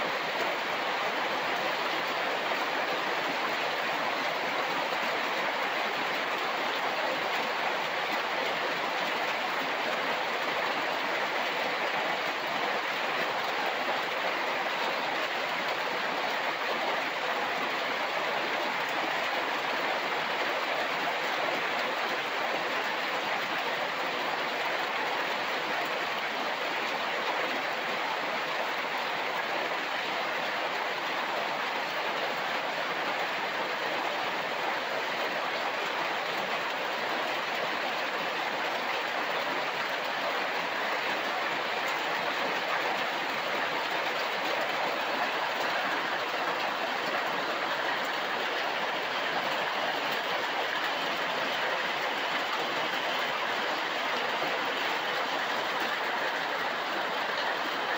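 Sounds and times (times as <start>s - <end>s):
rain falling on leaves: 0.0s - 57.9s.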